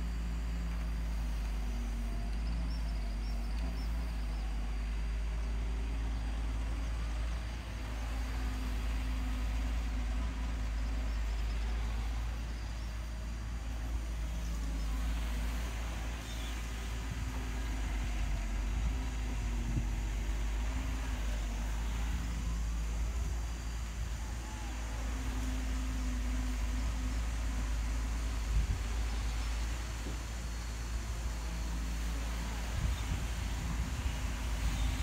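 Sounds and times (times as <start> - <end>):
excavator diesel engine under load: 0.0 - 35.0.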